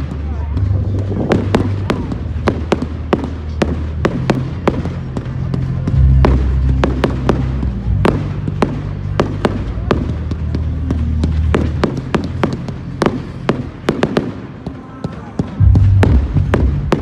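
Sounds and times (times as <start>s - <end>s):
music with deep bass: 0.0s - 14.0s, 15.6s - 17.0s
fireworks bangs and cracks: 0.0s - 17.0s.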